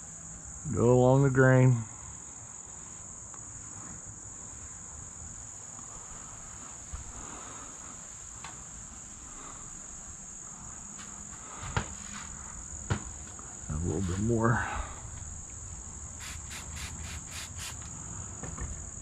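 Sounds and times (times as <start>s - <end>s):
insects singing: 0.0s - 19.0s.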